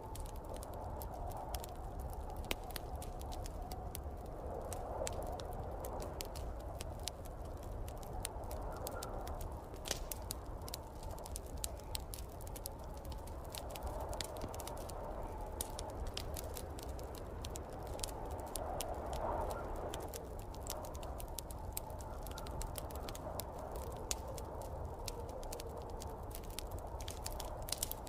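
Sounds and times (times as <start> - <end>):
snowstorm wind blowing: 0.0 - 28.0
wood fire crackling and popping: 0.0 - 28.0.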